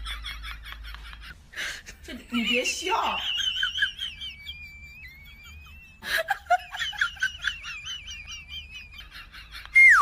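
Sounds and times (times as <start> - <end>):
high-pitched laughter: 0.0 - 10.0.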